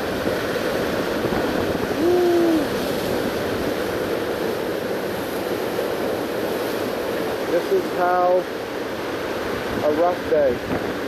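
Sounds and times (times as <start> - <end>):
wind buffeting microphone: 0.0 - 7.4, 8.0 - 11.0
sea surf washing against rocks: 0.0 - 11.0.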